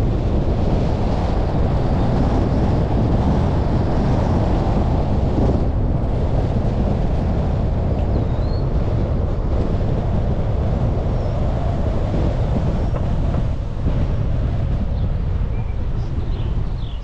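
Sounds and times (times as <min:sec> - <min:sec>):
car road noise: 0:00.0 - 0:16.7
wind buffeting microphone: 0:00.0 - 0:17.0.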